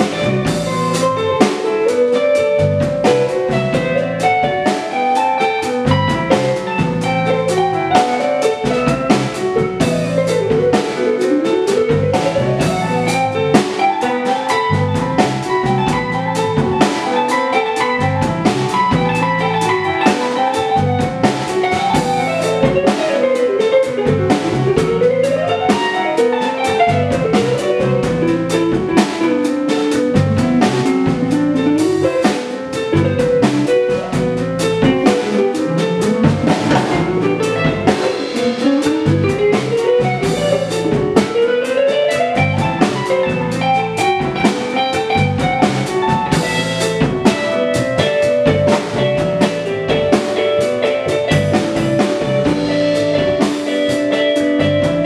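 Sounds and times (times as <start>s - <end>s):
electric guitar solo: 0.0s - 55.0s
jazz band playing: 0.0s - 55.0s.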